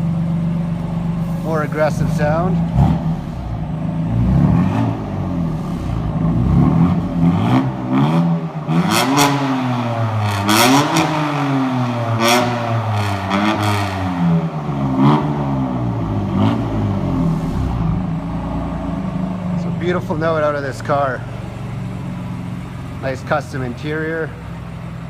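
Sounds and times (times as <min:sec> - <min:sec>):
car engine revving: 0:00.0 - 0:25.0
exhaust cracks: 0:00.8 - 0:25.0.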